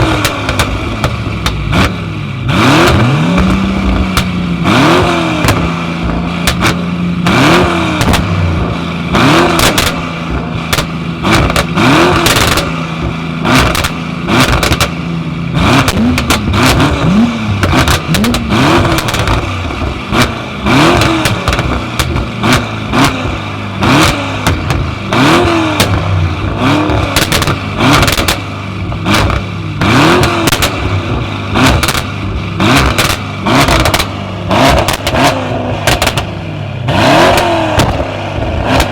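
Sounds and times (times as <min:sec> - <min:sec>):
car engines revving: 0:00.0 - 0:38.9
engines idling: 0:00.0 - 0:38.9
exhaust pops and crackles: 0:00.0 - 0:38.9.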